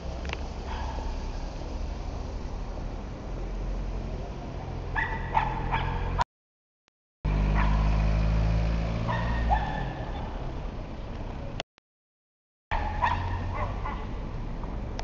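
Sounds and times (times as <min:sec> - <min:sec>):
car engines rumbling: 0:00.0 - 0:06.2, 0:07.3 - 0:11.6, 0:12.7 - 0:15.0.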